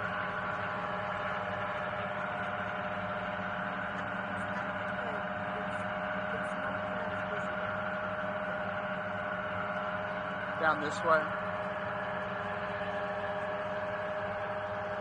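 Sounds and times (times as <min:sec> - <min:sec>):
steady droning hum: 0:00.0 - 0:15.0.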